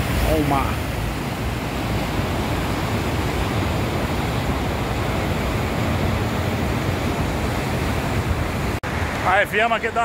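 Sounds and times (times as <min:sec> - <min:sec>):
rough sea surf breaking: 0:00.0 - 0:10.0.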